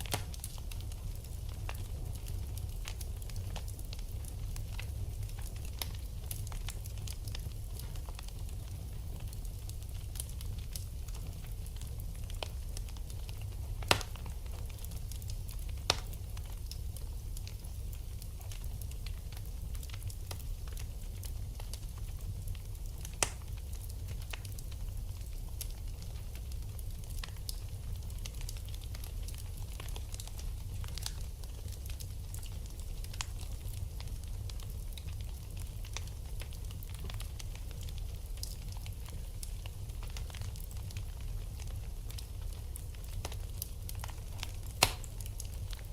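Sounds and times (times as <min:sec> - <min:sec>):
low fire rumble: 0:00.0 - 0:45.9
wood fire crackling and popping: 0:00.0 - 0:45.9.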